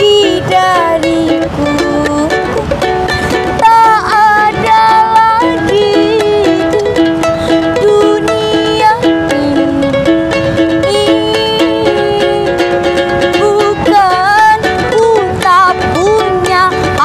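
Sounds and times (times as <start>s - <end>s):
plucked-string melody: 0.0s - 17.0s
wavering lead melody with vibrato: 0.0s - 17.0s.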